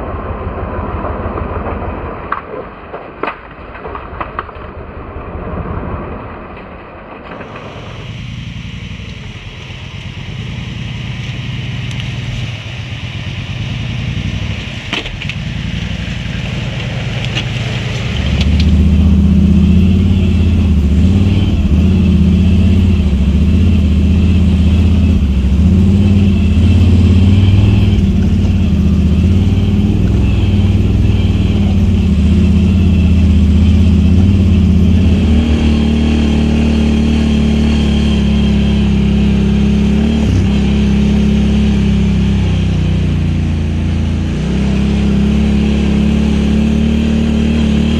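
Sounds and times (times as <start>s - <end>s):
atv engine running: 7.3s - 47.9s.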